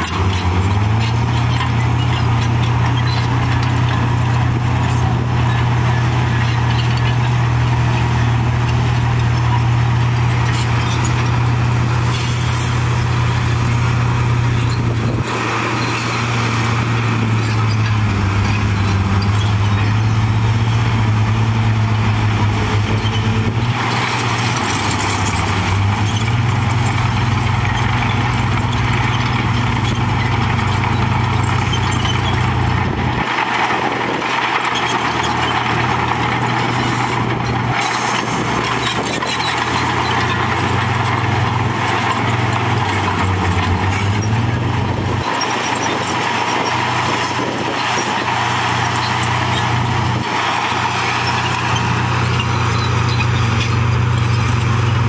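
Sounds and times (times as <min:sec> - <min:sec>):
bulldozer diesel engines droning: 0:00.0 - 0:55.0.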